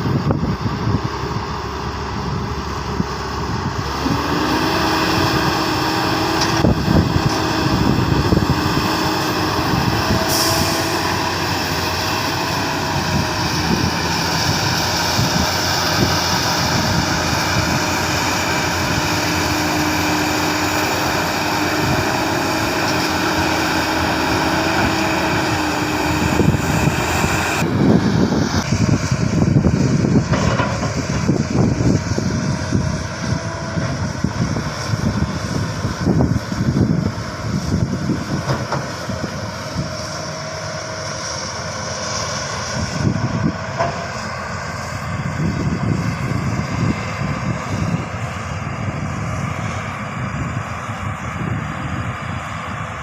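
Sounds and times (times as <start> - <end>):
diesel engine whining: 0.0 - 53.0.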